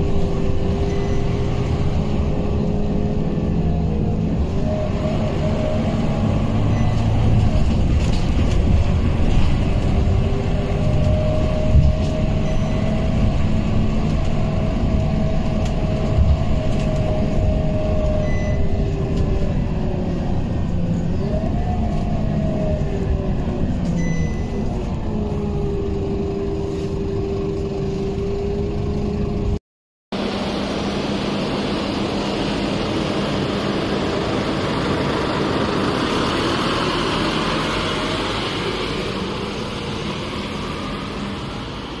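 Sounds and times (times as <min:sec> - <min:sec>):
bus idling hum: 0:00.0 - 0:29.6, 0:30.2 - 0:42.0
bus engine drone with whine: 0:00.0 - 0:42.0
passing traffic: 0:00.0 - 0:42.0.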